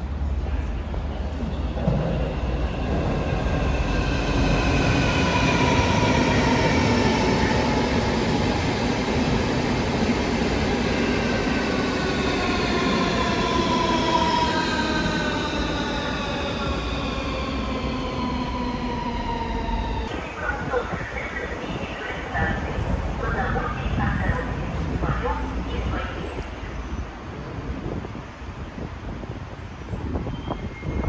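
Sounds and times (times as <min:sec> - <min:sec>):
electric train rumbling: 0:00.0 - 0:31.0.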